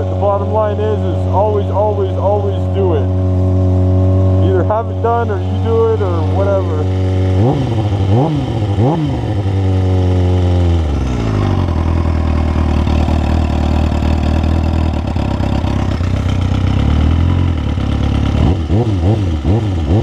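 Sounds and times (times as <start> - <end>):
motorcycle engine blips: 0.0 - 20.0
motorcycle engine idling: 0.0 - 20.0.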